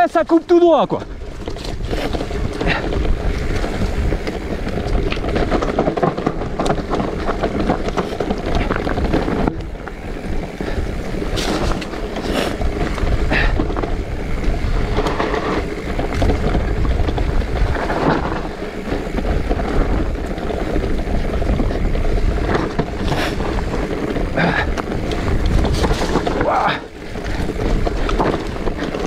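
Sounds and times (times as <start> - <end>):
bike knocks and rattles: 0.0 - 29.0
bike tyres on dirt trail: 0.0 - 29.0
wind buffeting microphone: 0.0 - 29.0.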